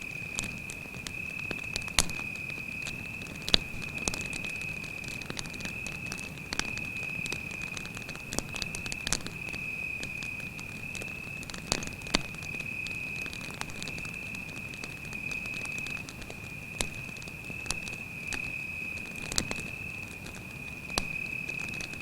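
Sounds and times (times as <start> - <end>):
campfire crackling: 0.0 - 22.0
crickets trilling: 0.0 - 22.0.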